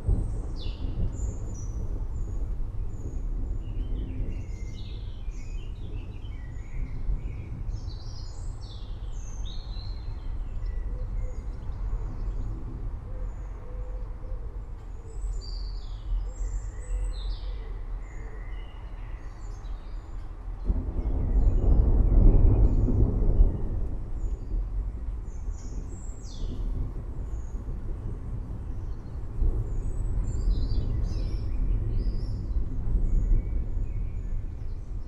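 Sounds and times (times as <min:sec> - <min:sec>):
steady low rumble: 0:00.0 - 0:18.2, 0:18.9 - 0:35.0.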